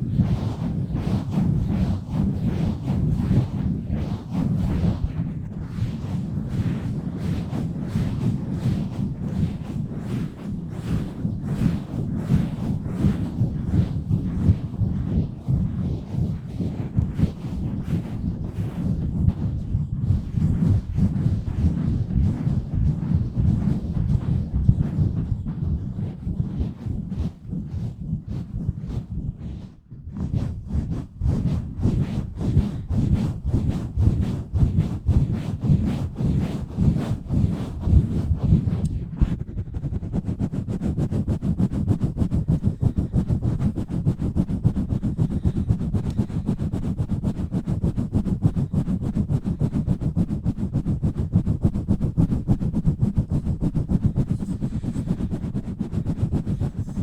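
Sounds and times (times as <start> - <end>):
hands rubbing on microphone: 0.0 - 57.0.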